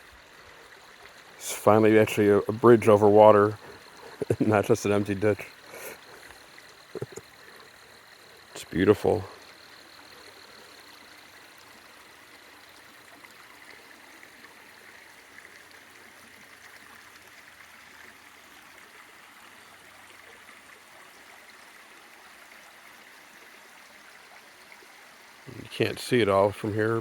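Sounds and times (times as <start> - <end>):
stream flowing: 0.0 - 27.0.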